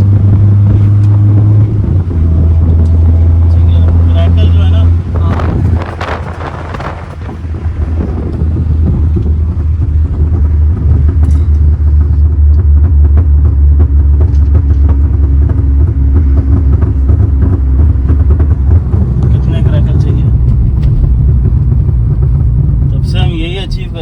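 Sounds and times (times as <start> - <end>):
car engine and exhaust drone: 0.0 - 24.0.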